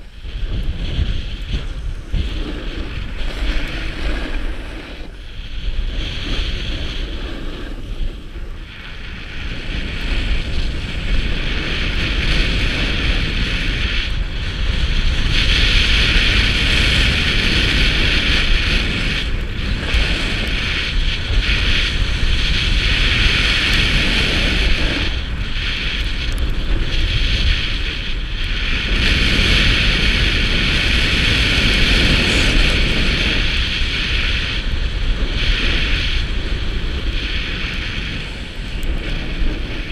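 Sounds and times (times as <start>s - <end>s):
skis scraping on packed snow: 0.0s - 39.9s
wind buffeting microphone: 0.0s - 39.9s.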